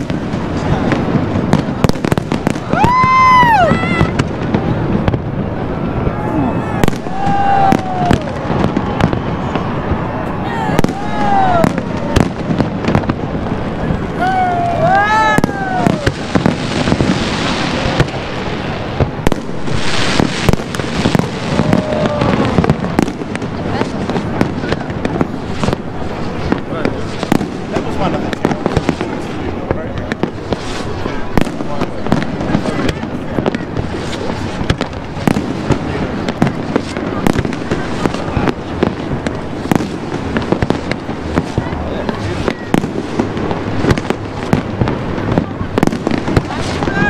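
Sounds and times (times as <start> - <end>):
firework bangs: 0.0 - 47.0
fireworks crackling hiss: 0.0 - 47.0.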